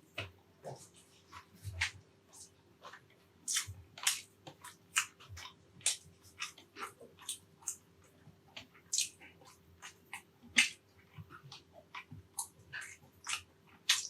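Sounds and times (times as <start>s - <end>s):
person chewing with wet smacks: 0.0s - 14.0s.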